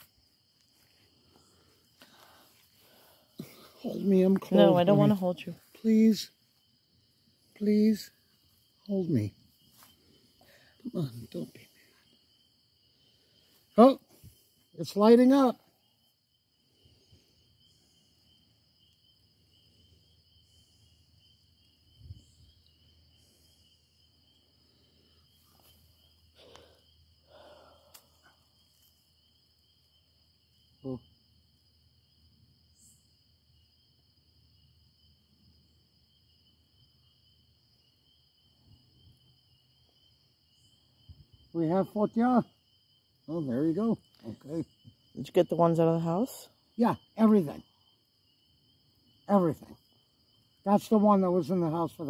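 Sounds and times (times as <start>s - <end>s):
crickets calling: 0.0s - 52.0s.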